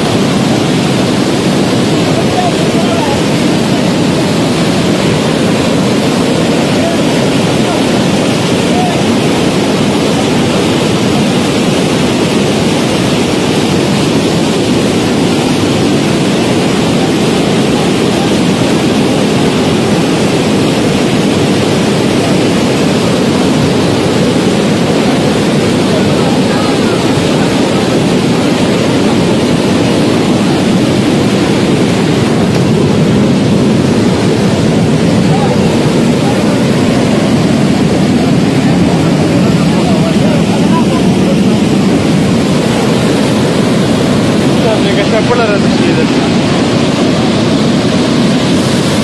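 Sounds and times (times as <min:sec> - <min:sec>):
flood torrent rushing: 0:00.0 - 0:49.0.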